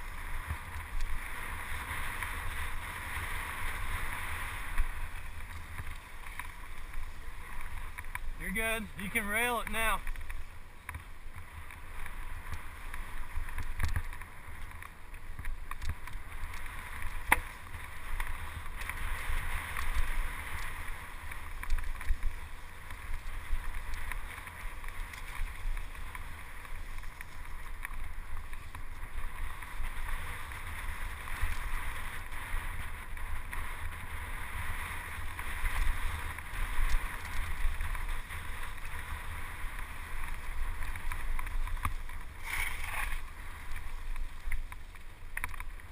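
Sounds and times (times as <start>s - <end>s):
bike tyres rolling on dirt: 0.0s - 45.9s.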